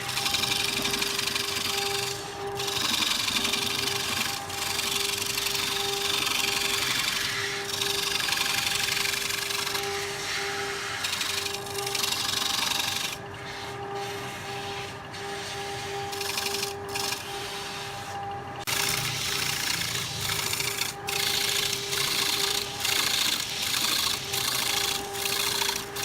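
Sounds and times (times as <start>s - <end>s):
lathe motor hum: 0.0s - 26.0s
lathe tool scraping spinning wood: 0.0s - 26.0s.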